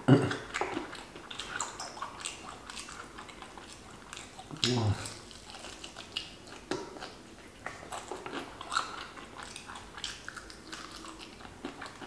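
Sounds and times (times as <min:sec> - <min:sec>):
crunchy chewing of fried chicken: 0:00.3 - 0:12.0.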